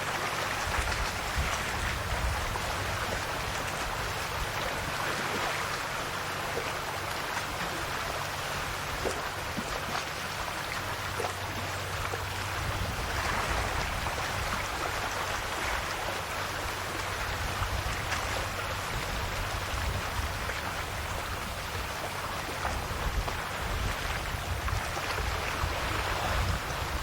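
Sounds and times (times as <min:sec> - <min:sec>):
waves washing on shore: 0:00.0 - 0:27.0.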